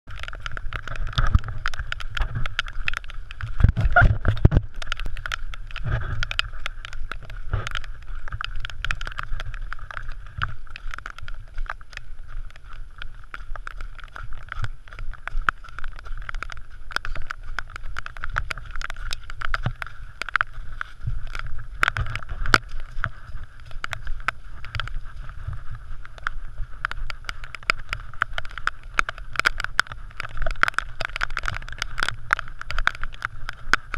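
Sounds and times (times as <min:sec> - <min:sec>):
camera knocking and jostling: 0:00.1 - 0:33.9
running footfalls: 0:00.1 - 0:33.9.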